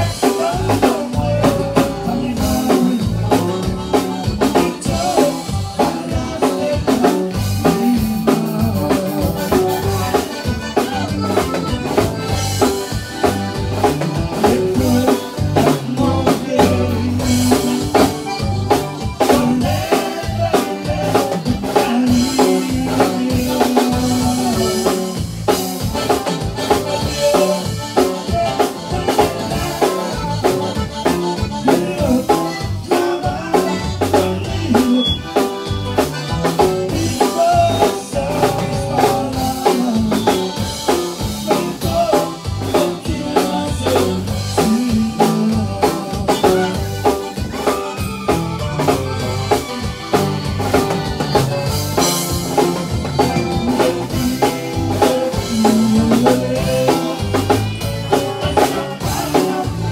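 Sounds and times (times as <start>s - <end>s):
bass: 0.0s - 59.9s
button accordion: 0.0s - 59.9s
drum kit beat: 0.0s - 59.9s.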